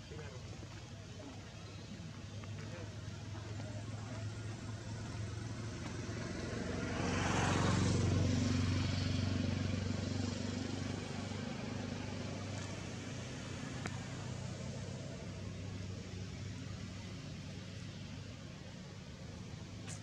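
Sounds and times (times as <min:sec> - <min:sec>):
passing motor vehicle engine: 0:00.9 - 0:20.0.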